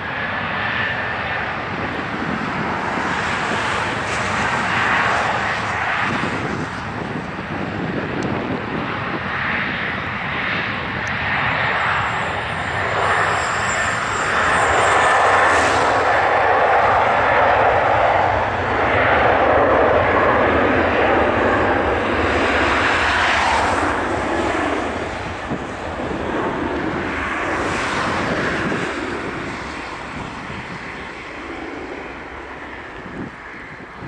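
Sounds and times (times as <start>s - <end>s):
jet engines roaring at takeoff: 0.0s - 34.0s.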